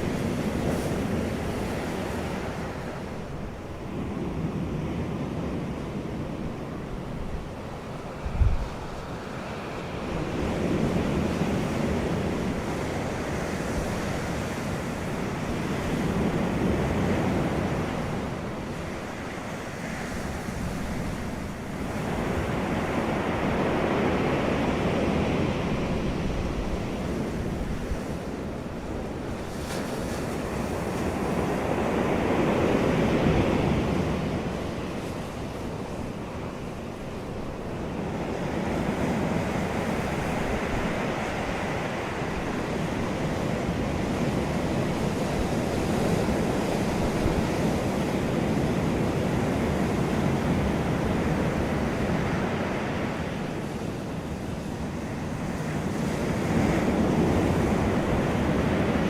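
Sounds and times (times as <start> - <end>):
wind gusting across microphone: 0.0 - 59.0.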